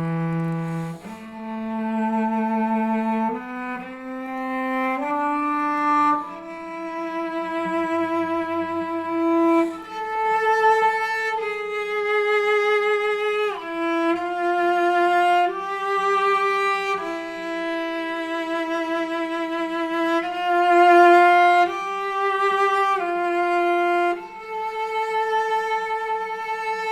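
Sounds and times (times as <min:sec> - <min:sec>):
violin playing slow melody: 0:00.0 - 0:26.9.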